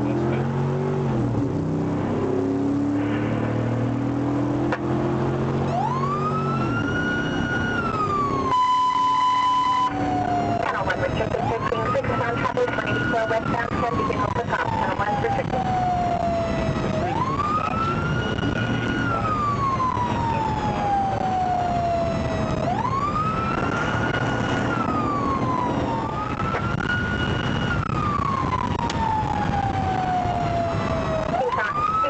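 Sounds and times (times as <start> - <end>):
road and engine noise: 0.0 - 32.0
police siren wailing: 1.6 - 32.0.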